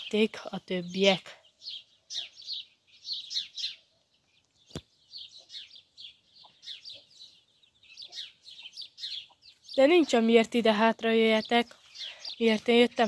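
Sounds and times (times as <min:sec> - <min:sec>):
chicks peeping: 0:01.0 - 0:13.0.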